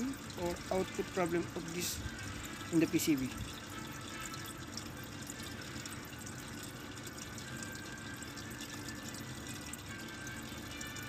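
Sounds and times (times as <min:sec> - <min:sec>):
faint running water: 0:00.0 - 0:11.0.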